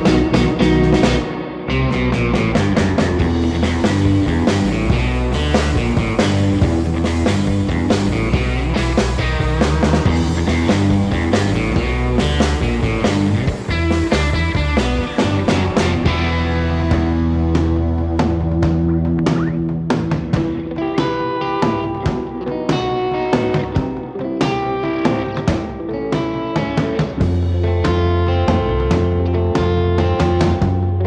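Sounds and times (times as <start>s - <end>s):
rock music: 0.0s - 31.0s.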